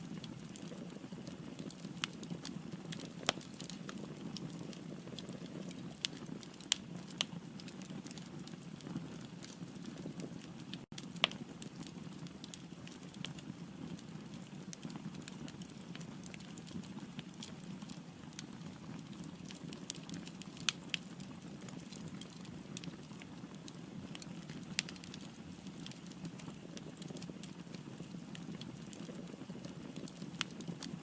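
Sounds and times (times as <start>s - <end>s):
fire burning in fireplace: 0.0s - 31.0s
fire crackles and pops: 0.0s - 31.0s.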